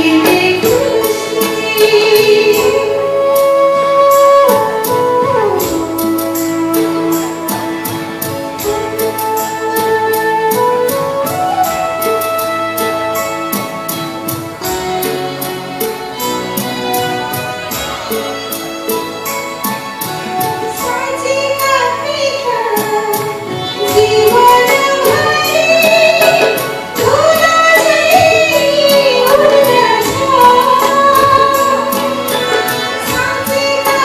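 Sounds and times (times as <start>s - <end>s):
sliding melody line: 0.0s - 34.0s
steady percussion beat: 4.4s - 21.2s, 23.0s - 34.0s.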